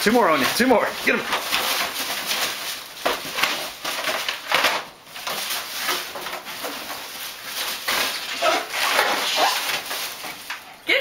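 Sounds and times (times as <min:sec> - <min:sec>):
scuffles and rustles: 0:00.0 - 0:10.8.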